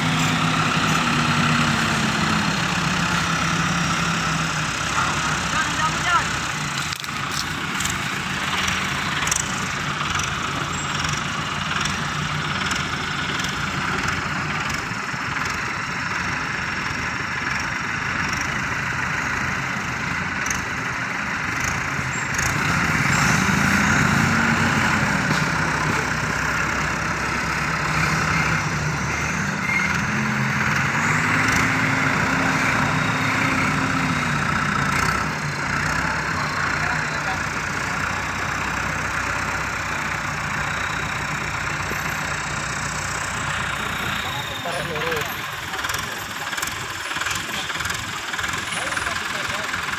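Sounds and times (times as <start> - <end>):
diesel engines revving: 0.0 - 49.9.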